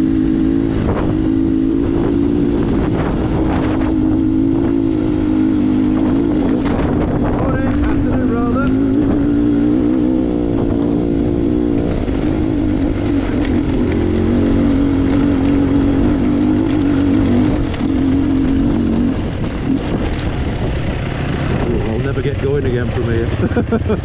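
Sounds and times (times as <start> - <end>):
motorcycle engine under load: 0.0 - 24.0.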